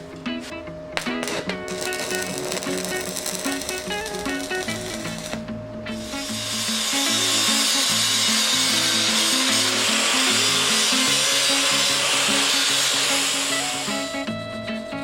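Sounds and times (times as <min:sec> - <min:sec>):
background music: 0:00.0 - 0:15.0
power tool hissing on steel: 0:01.0 - 0:14.3.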